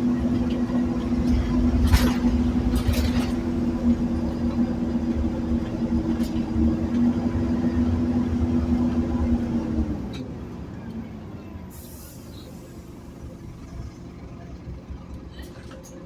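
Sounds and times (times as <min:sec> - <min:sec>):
bus diesel engine droning: 0:00.0 - 0:16.0
low road rumble: 0:00.0 - 0:16.0.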